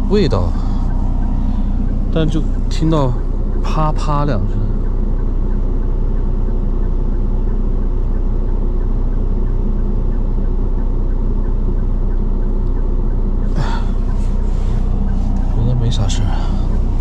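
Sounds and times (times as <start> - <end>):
engine droning: 0.0 - 17.0
road noise: 0.0 - 17.0.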